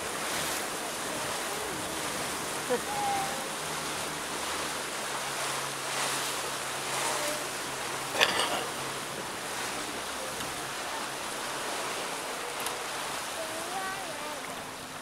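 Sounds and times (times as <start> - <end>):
water rushing along boat hull: 0.0 - 15.0.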